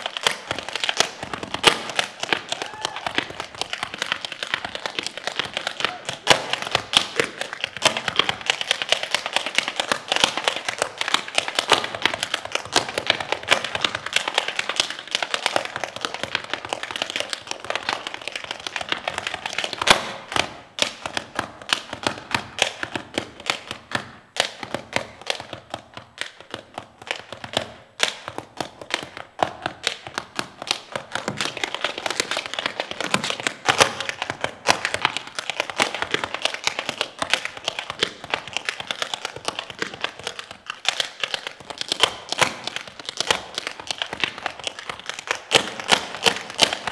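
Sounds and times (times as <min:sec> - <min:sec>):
tap shoes on stage floor: 0:00.0 - 0:46.9.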